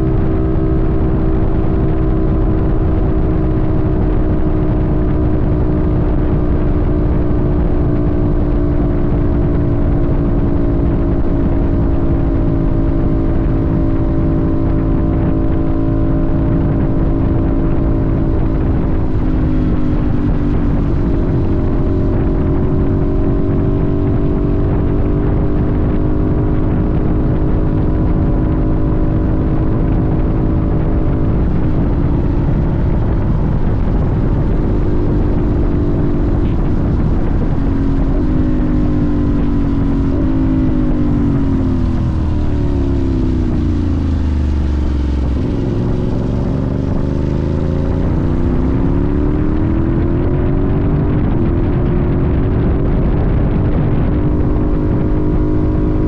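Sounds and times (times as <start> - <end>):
motorcycle engine: 0.0 - 56.0
wind on microphone: 0.0 - 56.0.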